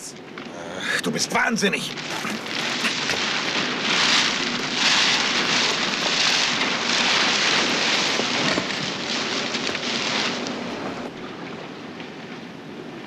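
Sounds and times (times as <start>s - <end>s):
plastic sheeting rustling and crackling: 1.3s - 12.2s.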